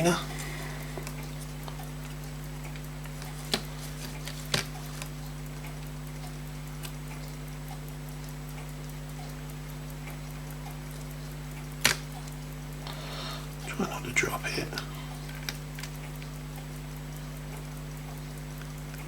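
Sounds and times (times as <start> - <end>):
low electrical hum: 0.0 - 19.0
pocket watch ticking: 0.0 - 19.0.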